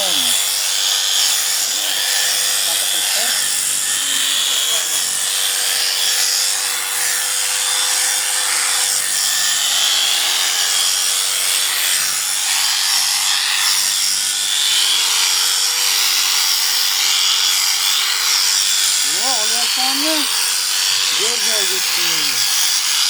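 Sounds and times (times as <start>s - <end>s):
electric sheep shears running: 0.0s - 23.0s.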